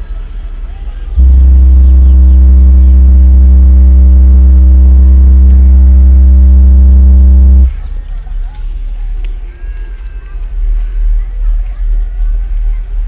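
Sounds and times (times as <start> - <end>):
subwoofer bass tone: 0.0 - 13.0.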